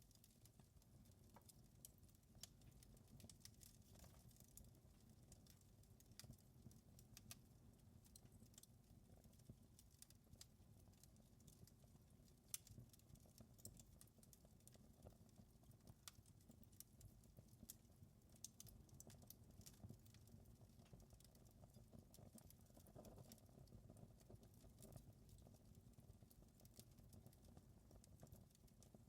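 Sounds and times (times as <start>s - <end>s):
fire crackling in fireplace: 0.0s - 29.0s.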